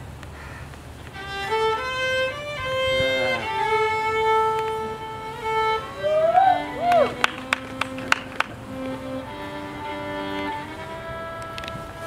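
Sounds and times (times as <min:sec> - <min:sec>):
slow violin melody: 0:01.0 - 0:12.0.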